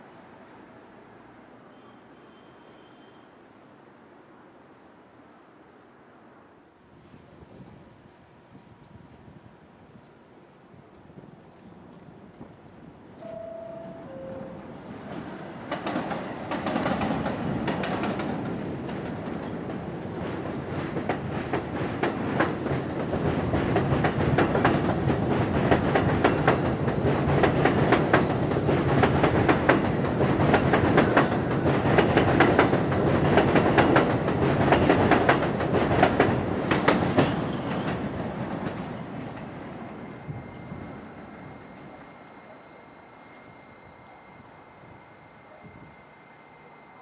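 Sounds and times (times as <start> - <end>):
subway train clattering past: 6.0 - 47.0.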